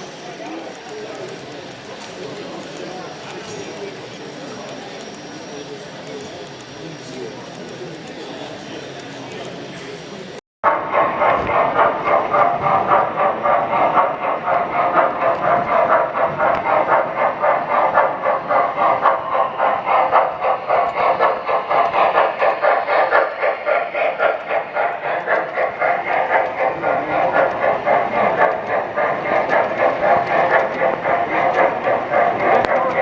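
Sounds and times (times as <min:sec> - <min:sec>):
model train rolling on track: 0:00.0 - 0:33.0.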